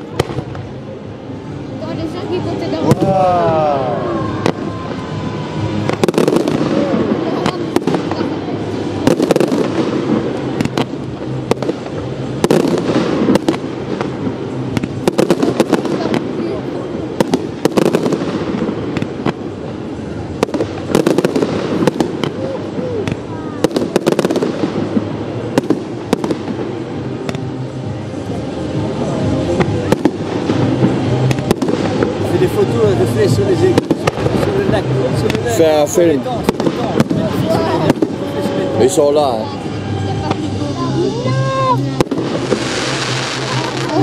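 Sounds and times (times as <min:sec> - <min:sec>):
continuous background din: 0:00.0 - 0:44.0
firework crackling: 0:00.0 - 0:44.0.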